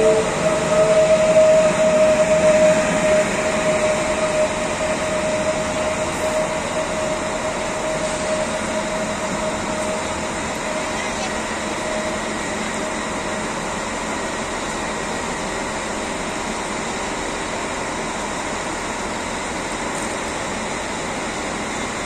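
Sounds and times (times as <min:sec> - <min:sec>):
faint whine tones: 0:00.0 - 0:18.0
train rolling slowly: 0:00.0 - 0:22.0.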